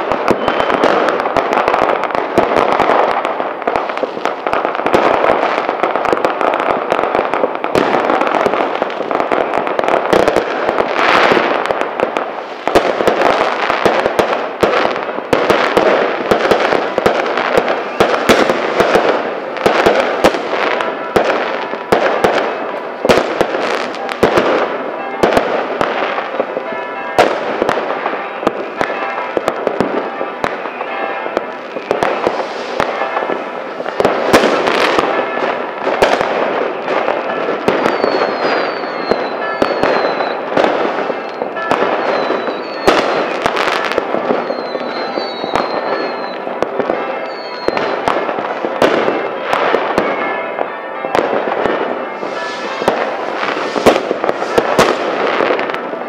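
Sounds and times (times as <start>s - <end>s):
sharp firework bangs: 0.0s - 50.4s, 51.1s - 56.0s
fireworks crackling: 0.0s - 56.0s.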